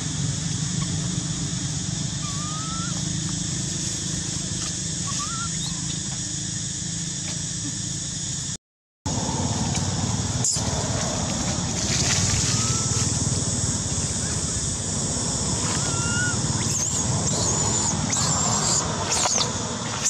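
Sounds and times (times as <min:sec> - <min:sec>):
steady noisy rumble: 0:00.0 - 0:20.0.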